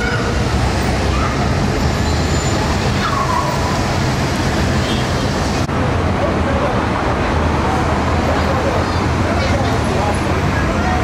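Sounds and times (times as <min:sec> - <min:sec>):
street traffic driving past: 0:00.0 - 0:11.0.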